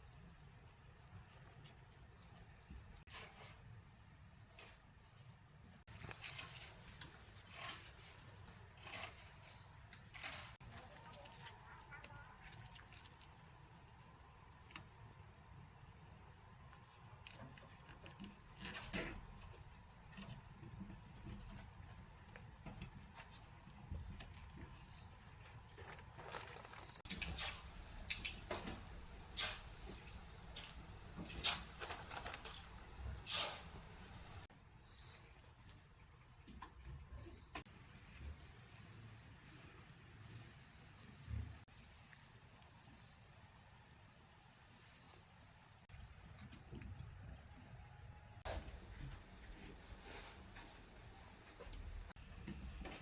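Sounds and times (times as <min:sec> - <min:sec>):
insects trilling: 0:05.9 - 0:48.4.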